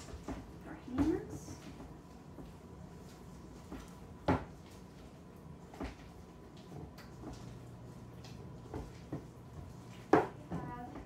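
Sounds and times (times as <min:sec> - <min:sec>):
hands kneading dough: 0:00.0 - 0:11.0.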